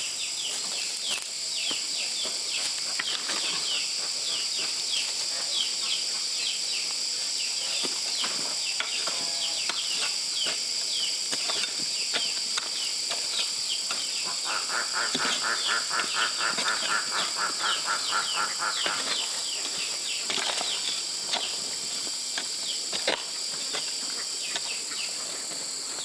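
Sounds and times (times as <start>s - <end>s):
insect chorus: 0.0s - 26.0s
rapid pulsing insect call: 0.0s - 26.0s.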